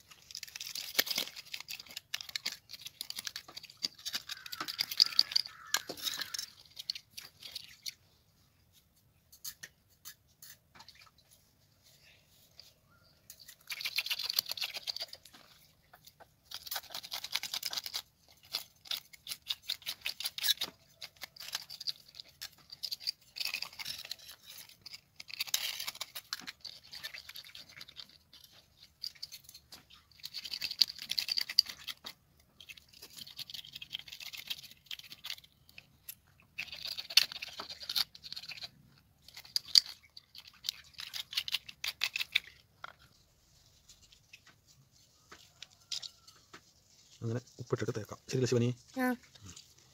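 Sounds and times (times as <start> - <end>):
wooden stick scraping fish scales: 0.0 - 8.0, 9.2 - 49.9.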